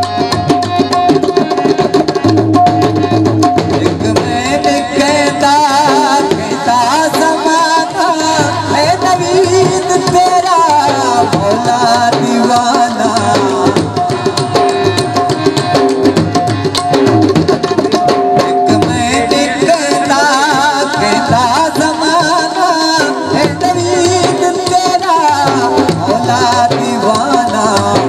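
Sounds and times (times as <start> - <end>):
folk music over a pa system: 0.0 - 28.0
hand drums playing fast rhythm: 0.0 - 28.0.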